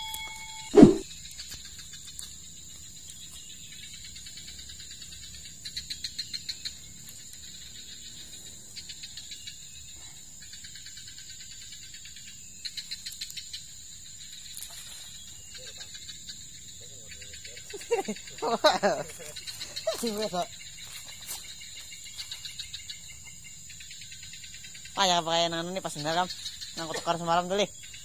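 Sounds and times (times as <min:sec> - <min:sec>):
insects chirping rapidly: 0:00.0 - 0:28.0
insects droning: 0:00.0 - 0:28.0.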